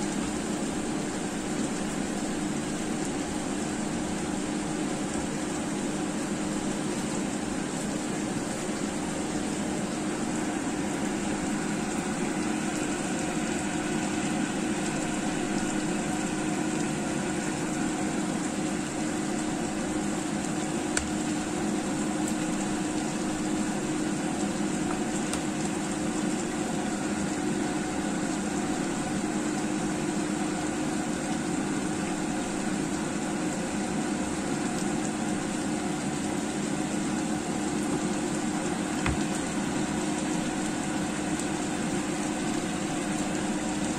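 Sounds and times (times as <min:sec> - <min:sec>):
curry bubbling in pan: 0:00.0 - 0:43.9
low machine hum: 0:00.0 - 0:43.9.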